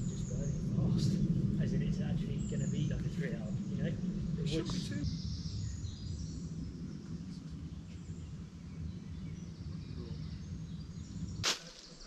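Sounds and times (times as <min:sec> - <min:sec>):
faint birdsong chirping: 0:00.0 - 0:12.0
steady low rumble: 0:00.0 - 0:12.0.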